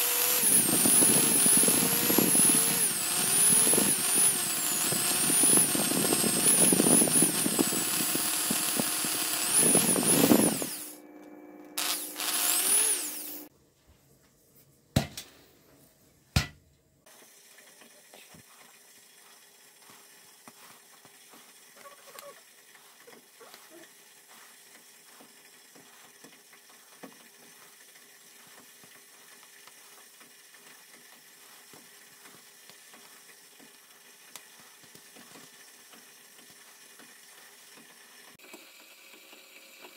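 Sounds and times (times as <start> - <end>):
electric whisk beating cream: 0.0 - 11.0, 11.6 - 13.5, 17.1 - 37.7.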